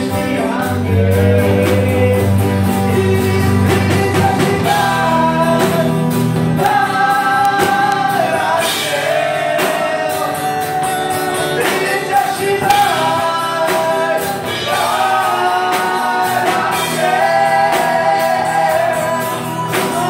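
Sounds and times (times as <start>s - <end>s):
acoustic guitar: 0.0s - 20.0s
drum kit with cymbal hits: 0.0s - 20.0s
electric bass: 0.0s - 20.0s
men singing together: 0.0s - 20.0s.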